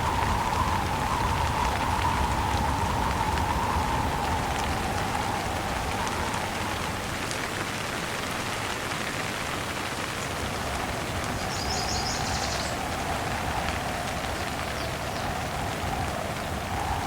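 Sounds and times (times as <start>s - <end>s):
wind rumble: 0.0s - 8.2s, 10.2s - 17.0s
rain falling: 0.0s - 17.0s.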